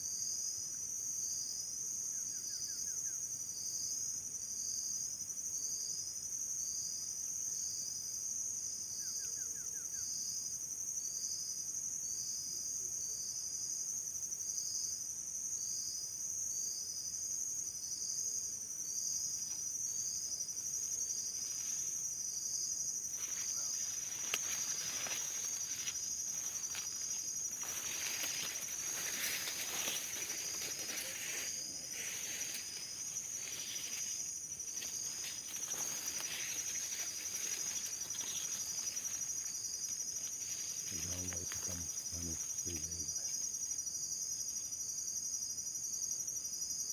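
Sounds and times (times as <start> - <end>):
insects chirring: 0.0 - 46.9.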